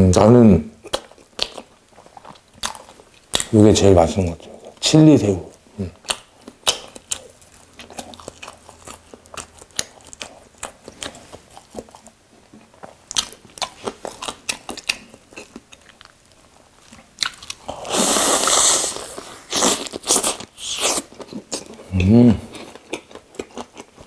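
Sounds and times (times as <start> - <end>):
close chewing: 0.8 - 3.6, 5.5 - 24.0.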